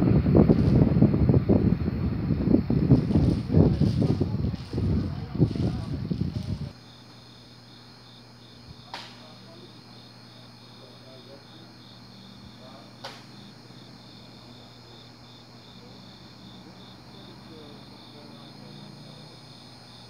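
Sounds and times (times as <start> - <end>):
cricket chirping: 2.4 - 20.0.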